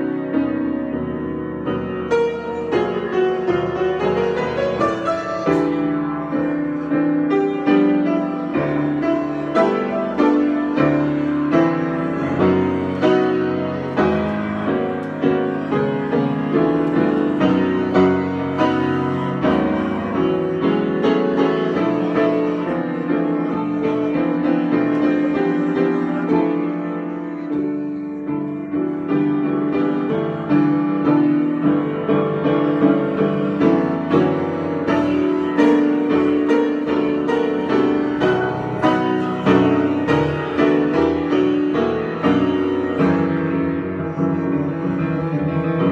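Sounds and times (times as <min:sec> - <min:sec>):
piano improvisation: 0:00.0 - 0:45.9.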